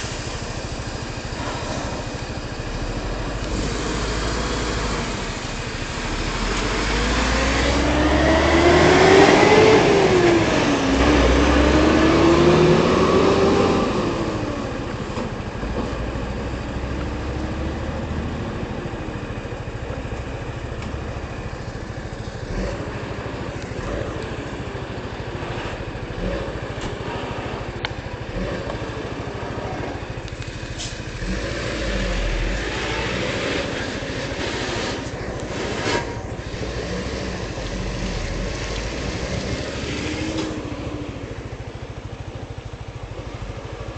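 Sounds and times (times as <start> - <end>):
road noise: 0.0 - 43.9
vehicle engine revving: 0.0 - 43.9.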